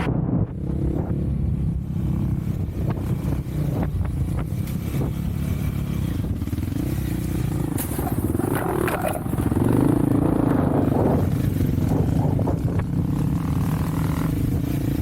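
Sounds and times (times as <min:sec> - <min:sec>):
off-road vehicle engine: 0:00.0 - 0:15.0.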